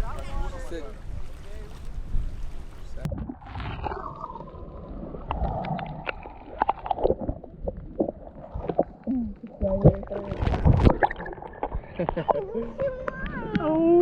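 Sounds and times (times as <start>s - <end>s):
water gurgling: 0.0s - 14.0s
water sloshing and splashing: 0.0s - 14.0s.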